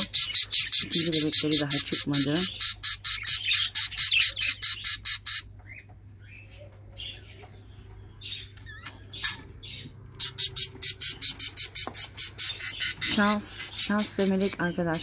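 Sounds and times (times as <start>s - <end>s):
birds calling harshly: 0.0s - 15.0s
birds chirping: 0.0s - 15.0s.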